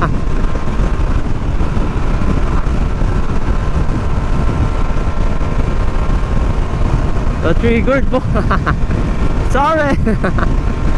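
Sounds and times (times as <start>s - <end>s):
scooter engine running: 0.0s - 10.9s
wind rush on microphone: 0.0s - 10.9s.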